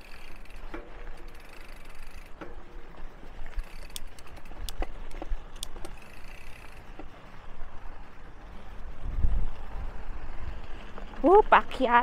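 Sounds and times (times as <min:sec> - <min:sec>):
bike clicks and rattles: 0:00.0 - 0:12.0
bike tyres on gravel: 0:00.0 - 0:12.0.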